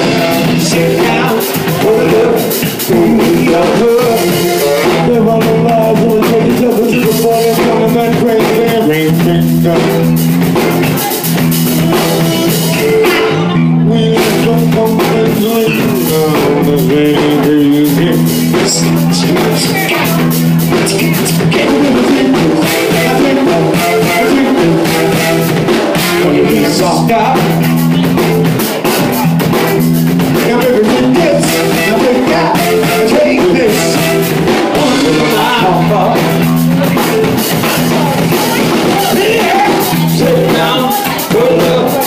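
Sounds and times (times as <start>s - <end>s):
band playing with drums and guitar: 0.0s - 42.0s.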